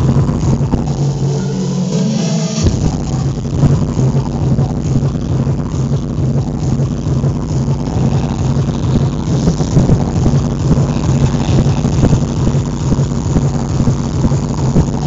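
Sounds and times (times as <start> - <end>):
bass-heavy dance music: 0.0 - 15.0.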